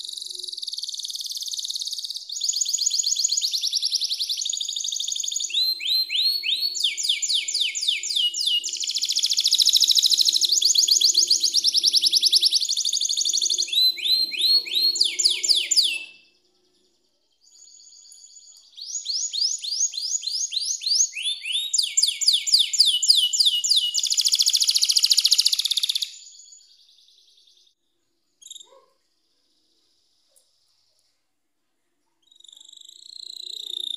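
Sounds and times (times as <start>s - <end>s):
canary singing: 0.0s - 27.6s, 32.3s - 33.9s.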